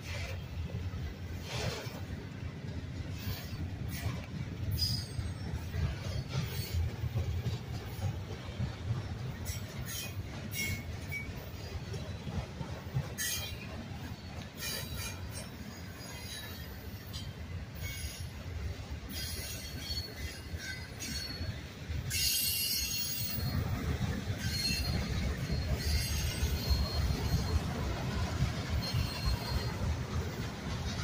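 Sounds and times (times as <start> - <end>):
metallic wheel squeals: 3.0 - 8.2, 9.4 - 30.3.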